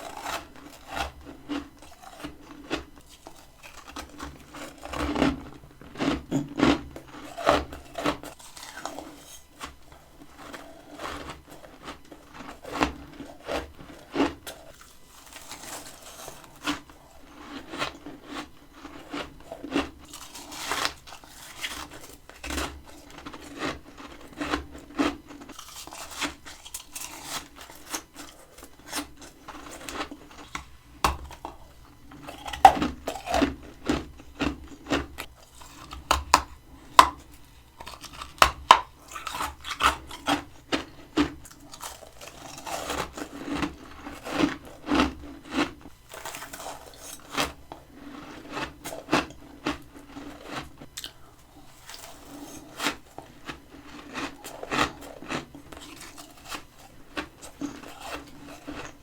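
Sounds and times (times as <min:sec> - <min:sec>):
chewing crunchy frost: 0:00.0 - 0:59.0.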